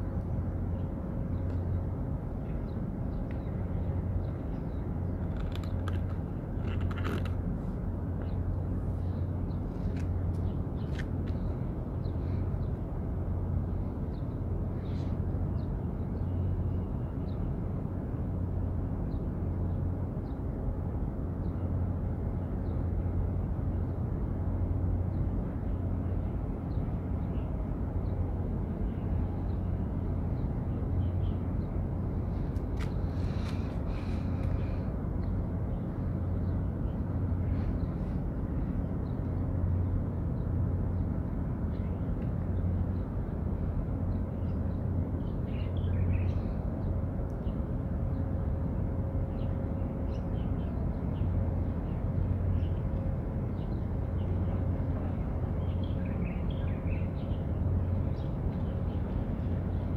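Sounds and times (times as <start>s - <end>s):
low hum: 0.0s - 59.9s
low outdoor rumble: 0.0s - 59.9s.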